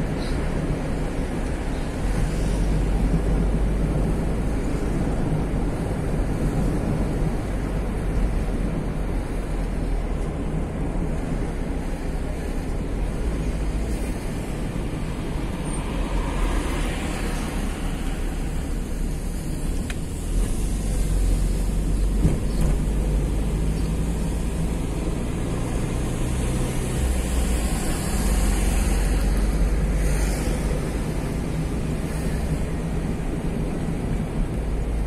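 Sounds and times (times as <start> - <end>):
car interior road rumble: 0.0 - 35.0.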